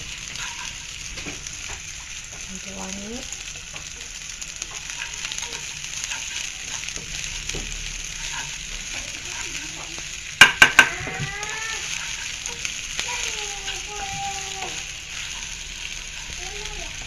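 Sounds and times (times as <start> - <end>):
spatula scraping a pan: 0.0 - 2.5, 3.3 - 17.0
garlic sizzling in hot oil: 0.0 - 17.0.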